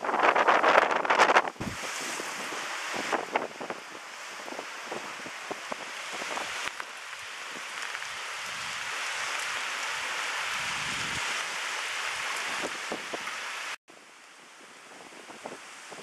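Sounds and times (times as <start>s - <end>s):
wind and rain hissing: 0.0s - 16.0s.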